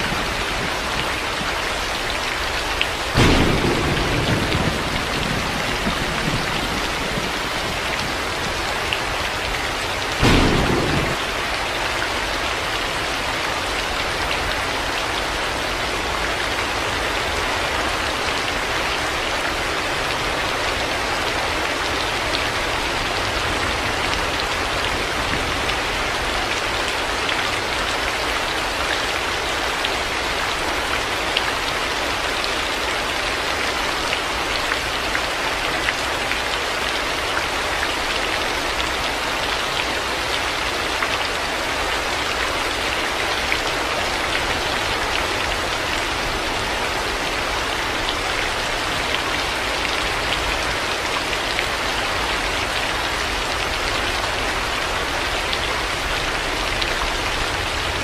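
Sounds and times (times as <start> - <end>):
heavy rain: 0.0 - 58.0
raindrops ticking on surfaces: 0.0 - 58.0.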